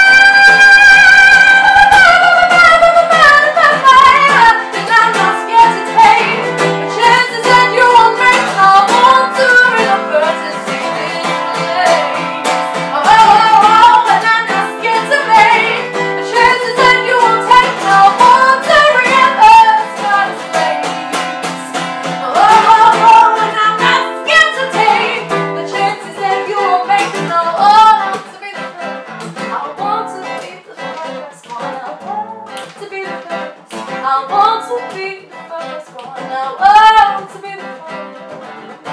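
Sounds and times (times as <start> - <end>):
strummed acoustic guitar: 0.0 - 38.9
woman singing: 0.0 - 38.9.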